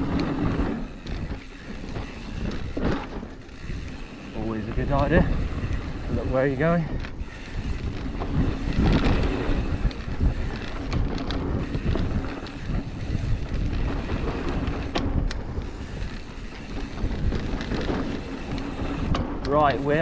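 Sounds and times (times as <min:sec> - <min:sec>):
bike knocks and rattles: 0:00.0 - 0:20.0
bike tyres rumbling on trail: 0:00.0 - 0:20.0
wind buffeting microphone: 0:00.0 - 0:20.0.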